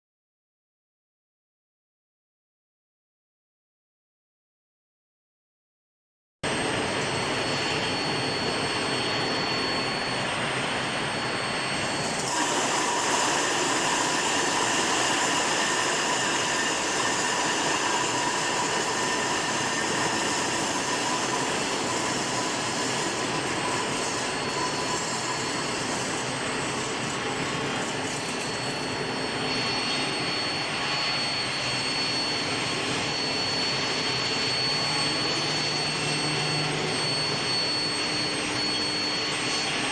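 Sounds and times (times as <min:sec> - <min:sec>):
steady industrial noise: 0:06.5 - 0:39.9
thin high whines: 0:06.5 - 0:39.9.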